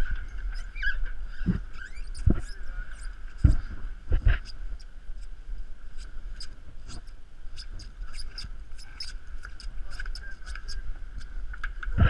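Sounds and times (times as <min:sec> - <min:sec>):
low wind rumble: 0:00.0 - 0:12.0
rigging squeaks and ticks: 0:00.0 - 0:12.0.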